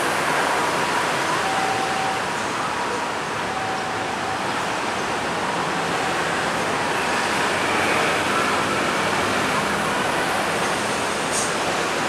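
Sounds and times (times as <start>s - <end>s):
train approaching with rushing noise: 0.0s - 12.0s.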